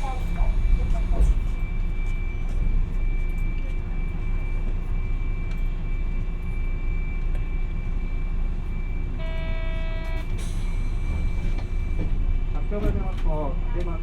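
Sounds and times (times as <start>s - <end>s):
tram interior rumble: 0.0s - 14.0s.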